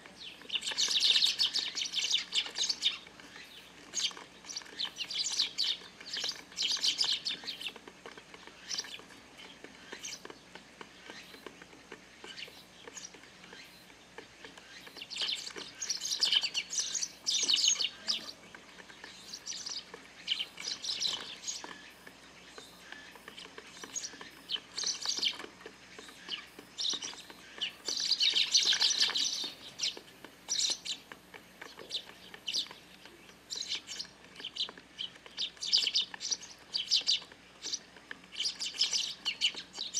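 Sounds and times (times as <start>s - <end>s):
flock of sparrows chirping: 0.0s - 39.9s.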